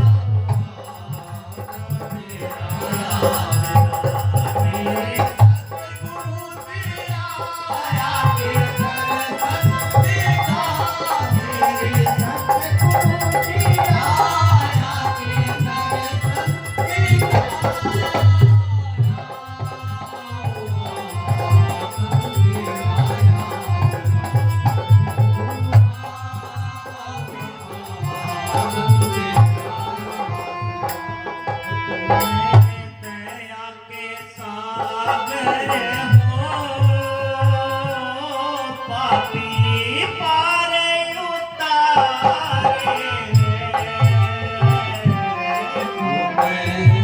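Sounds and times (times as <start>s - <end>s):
person singing: 0.0s - 31.0s, 32.0s - 47.0s.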